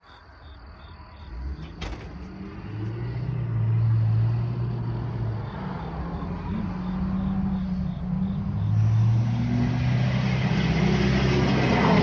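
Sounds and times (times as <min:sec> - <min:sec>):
truck engine passing by: 0:01.3 - 0:12.0.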